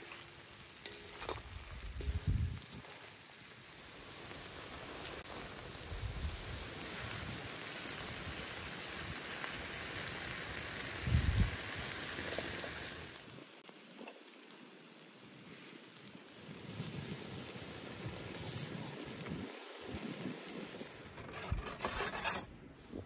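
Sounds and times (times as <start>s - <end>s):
food sizzling in iron pan: 0.0s - 22.5s.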